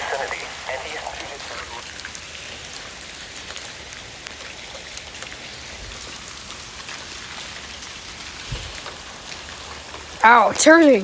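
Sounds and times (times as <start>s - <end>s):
hailstones ticking: 0.0s - 11.0s
rain hissing: 0.0s - 11.0s.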